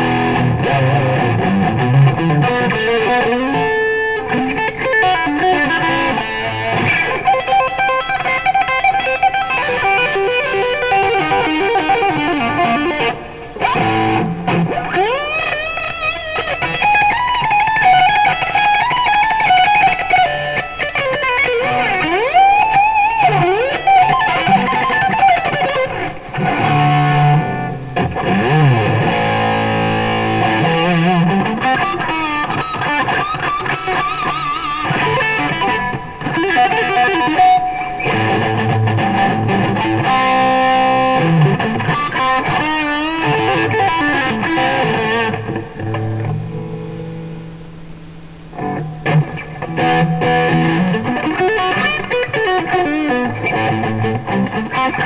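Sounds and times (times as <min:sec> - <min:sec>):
electric guitar lead lines: 0:00.0 - 0:55.0.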